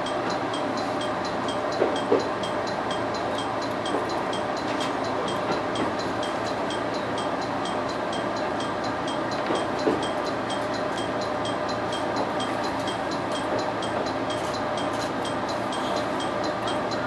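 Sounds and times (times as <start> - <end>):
diesel railcar engine running: 0.0 - 17.0.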